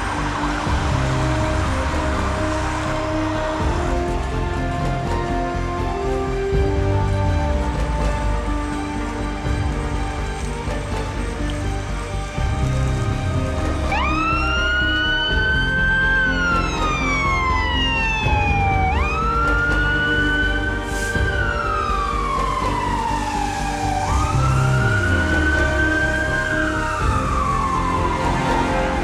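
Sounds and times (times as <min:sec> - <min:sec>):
fire engine siren wailing: 0:00.0 - 0:09.3, 0:12.9 - 0:29.0
background music: 0:00.0 - 0:29.0.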